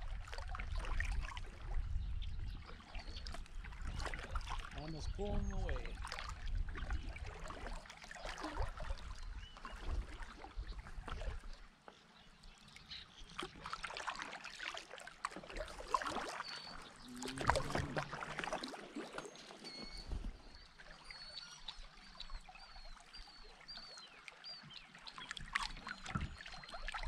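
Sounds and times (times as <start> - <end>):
kayak paddle splashing and dripping: 0.0 - 27.0.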